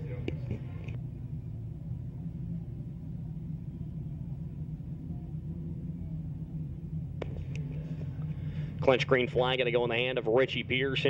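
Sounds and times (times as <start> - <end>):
low engine rumble of race cars: 0.0 - 11.0.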